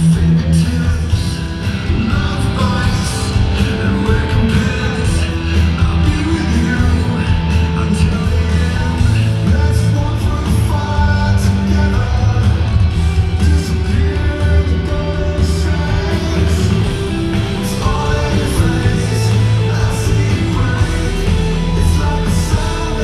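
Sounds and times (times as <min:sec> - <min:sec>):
lead singer singing: 0:00.0 - 0:23.0
live rock band playing: 0:00.0 - 0:23.0.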